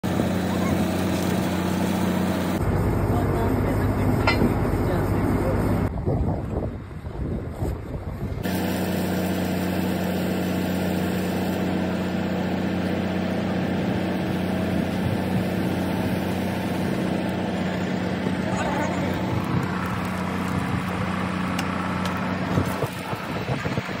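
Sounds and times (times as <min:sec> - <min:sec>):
drilling rig engine humming: 0:00.0 - 0:05.9, 0:07.8 - 0:24.0.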